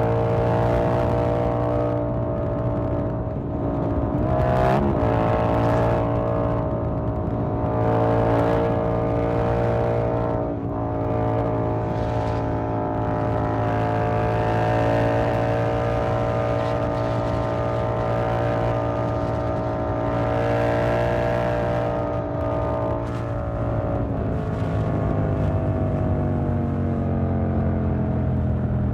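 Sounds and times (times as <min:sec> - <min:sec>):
motorcycle engine cruising: 0:00.0 - 0:28.9.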